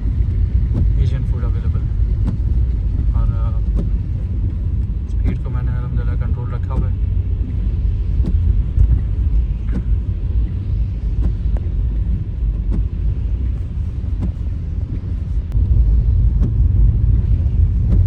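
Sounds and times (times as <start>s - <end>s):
car driving on snowy road: 0.0s - 18.0s.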